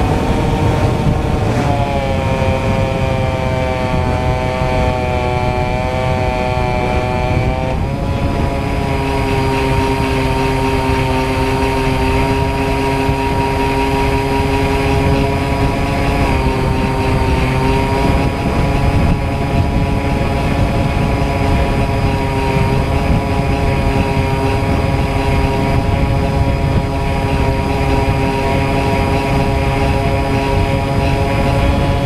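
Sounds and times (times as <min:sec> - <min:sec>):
model plane motor whine: 0:00.0 - 0:32.0
wind noise: 0:00.0 - 0:32.0.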